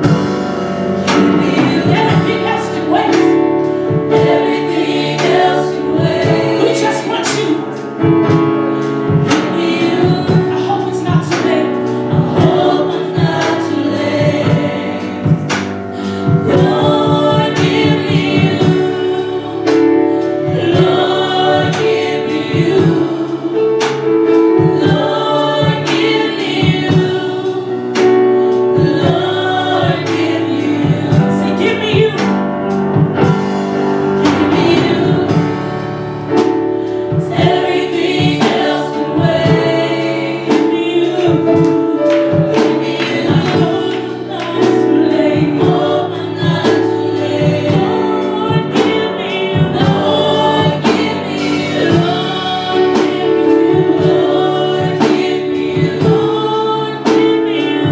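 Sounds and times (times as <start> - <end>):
drum hits: 0.0 - 27.4, 28.8 - 57.9
band accompaniment: 0.0 - 57.9
gospel group singing: 0.0 - 57.9.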